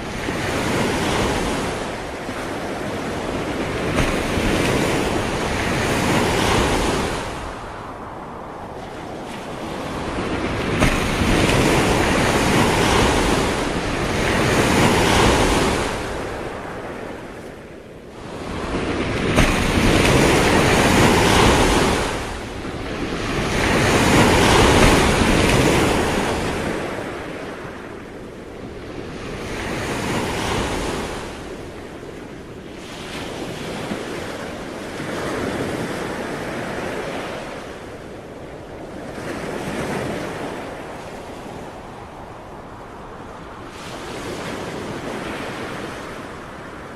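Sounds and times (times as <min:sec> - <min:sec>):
waves breaking and washing back: 0:00.0 - 0:46.9.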